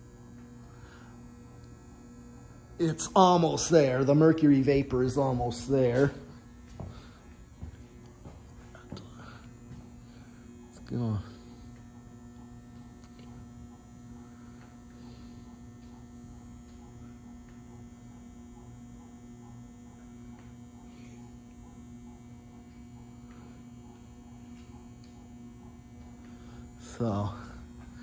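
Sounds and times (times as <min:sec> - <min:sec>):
electrical hum of lights: 0:00.0 - 0:28.0.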